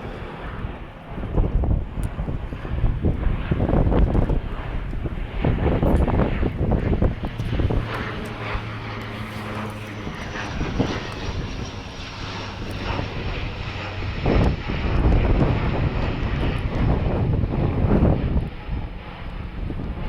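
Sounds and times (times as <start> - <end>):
distant engine drone: 0.0 - 20.0
wind buffeting microphone: 0.0 - 20.0.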